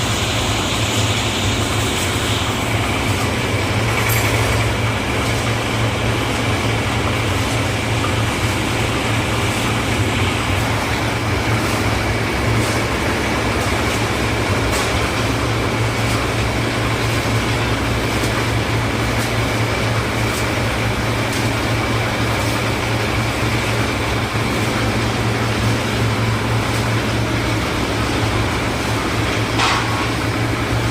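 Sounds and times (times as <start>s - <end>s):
concrete mixer engine hum: 0.0s - 30.9s
steady high whine: 0.0s - 30.9s.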